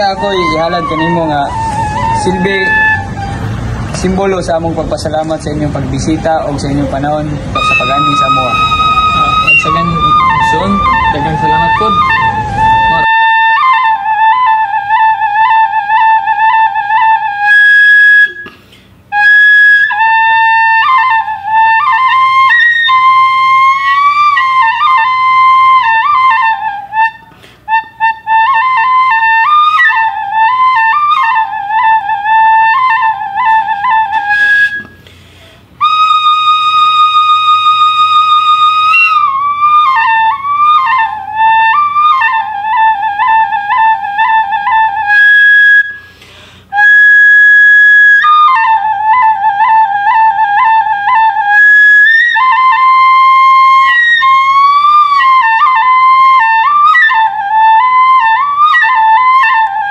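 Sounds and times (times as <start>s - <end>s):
solo flute melody: 0.0s - 4.4s, 5.0s - 35.1s, 35.8s - 59.9s.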